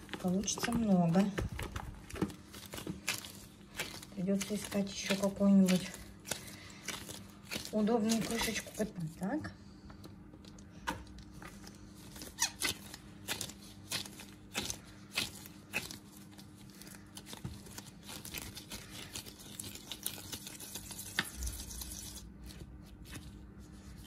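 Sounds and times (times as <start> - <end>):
hands shaping moist paste: 0.0 - 24.0.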